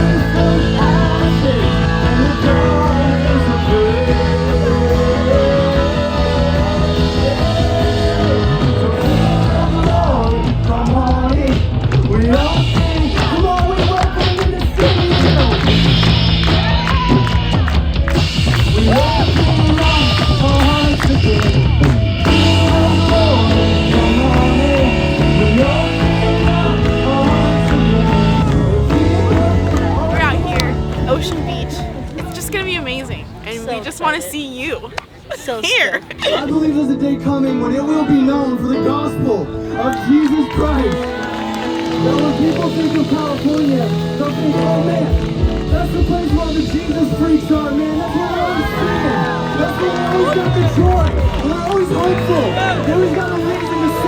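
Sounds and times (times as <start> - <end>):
rock music bass and guitar: 0.0 - 32.4, 36.2 - 54.0
worship band playing: 0.0 - 36.8, 38.2 - 54.0.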